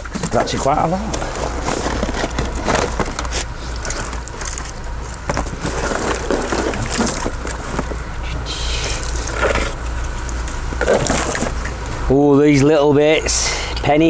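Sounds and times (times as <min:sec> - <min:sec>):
wires rustling against cardboard: 0:00.0 - 0:12.0
steady low hum: 0:00.0 - 0:14.0.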